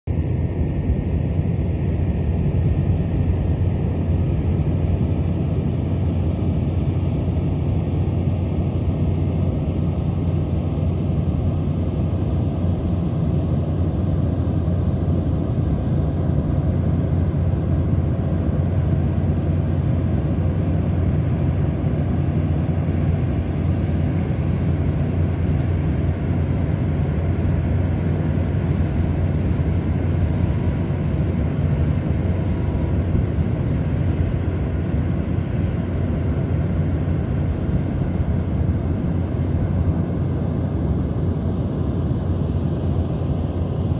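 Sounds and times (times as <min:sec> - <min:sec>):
heavy machinery engine drone: 0:00.1 - 0:43.9.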